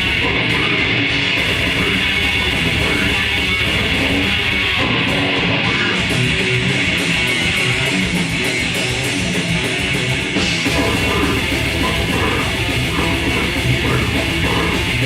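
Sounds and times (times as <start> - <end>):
distorted guitar and bass riff: 0.0 - 15.0.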